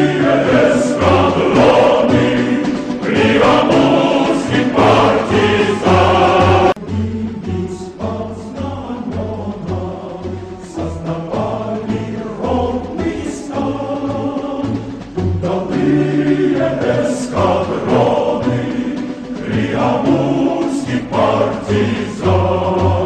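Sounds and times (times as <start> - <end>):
choir singing: 0.0 - 23.0
instrumental accompaniment: 0.0 - 23.0.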